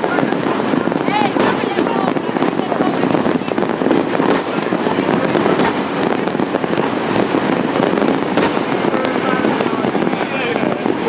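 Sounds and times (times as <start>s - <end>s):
fireworks and firecrackers crackling: 0.0s - 11.0s
sharp firework bangs: 0.0s - 11.0s.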